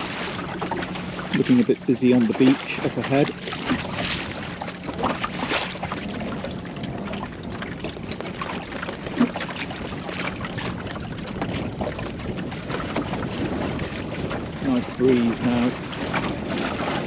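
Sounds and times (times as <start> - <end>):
water rushing along a hull: 0.0 - 17.0
water slapping against hull: 0.0 - 17.0.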